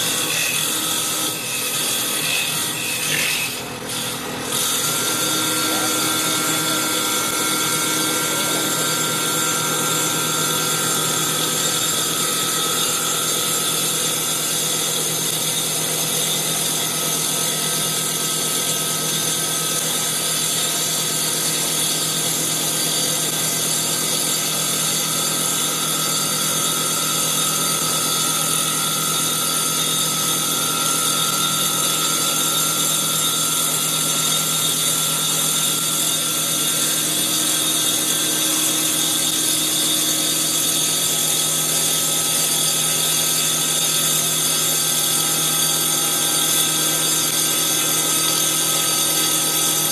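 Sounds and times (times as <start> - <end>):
saw blade cutting wood whine: 0.0 - 49.9.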